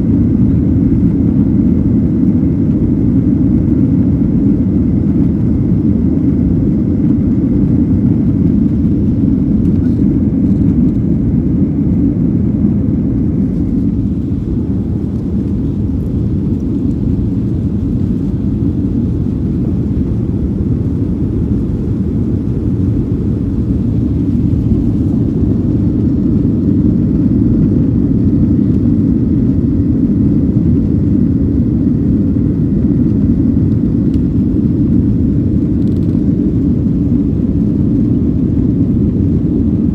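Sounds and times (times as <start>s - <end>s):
airplane engines rumbling: 0.0s - 39.9s.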